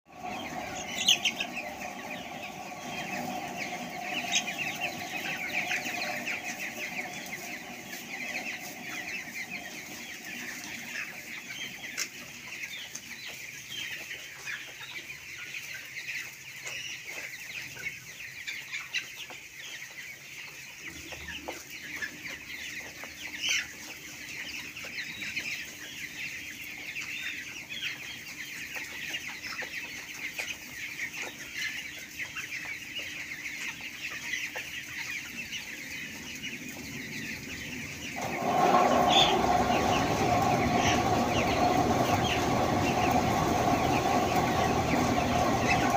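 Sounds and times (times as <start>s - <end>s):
flock of chickens calling: 0.1s - 45.9s.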